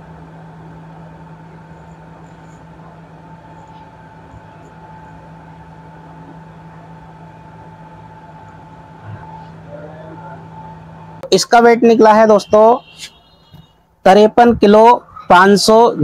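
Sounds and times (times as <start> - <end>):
high whine: 0.0 - 16.0
machine hum: 0.0 - 16.0.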